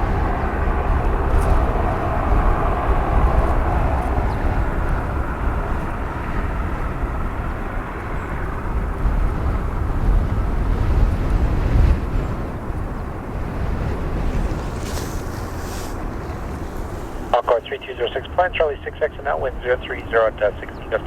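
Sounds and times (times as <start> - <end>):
airliner engines passing: 0.0 - 21.0.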